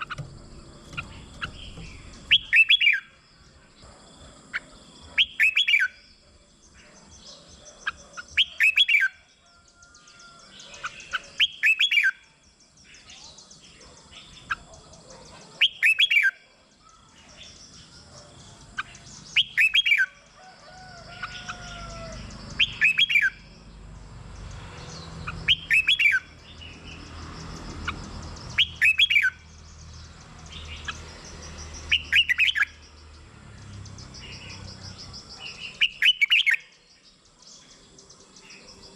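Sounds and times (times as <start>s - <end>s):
bird chirps: 0.0s - 38.9s
bird singing: 0.0s - 38.9s.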